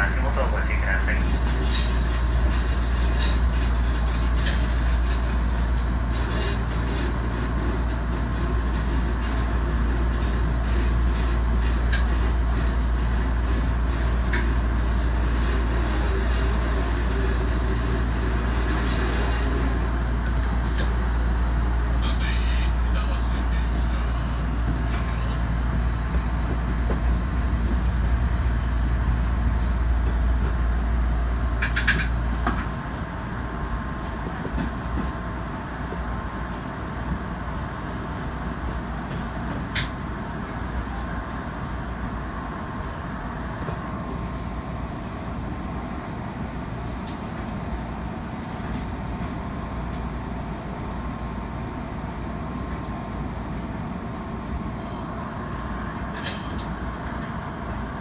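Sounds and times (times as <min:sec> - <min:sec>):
faint train whine: 0:00.0 - 0:58.0
wheels rumbling on rail: 0:00.0 - 0:58.0.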